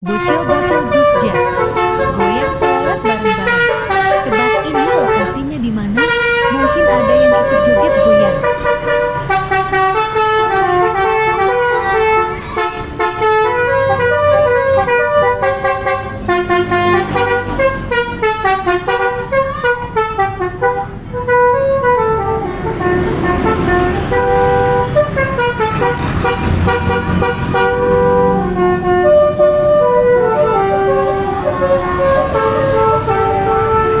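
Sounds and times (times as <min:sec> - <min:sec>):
multi-note air horn tune: 0:00.0 - 0:34.0.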